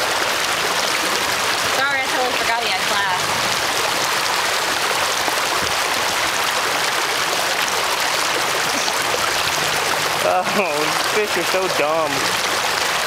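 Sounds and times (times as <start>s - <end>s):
shallow water rushing: 0.0s - 13.0s.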